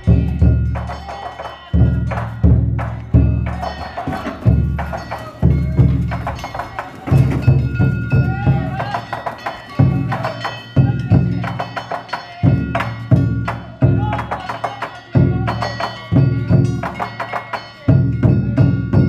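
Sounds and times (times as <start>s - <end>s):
big taiko drum rhythm: 0.0s - 19.0s
small hand gongs clanging: 0.0s - 19.0s.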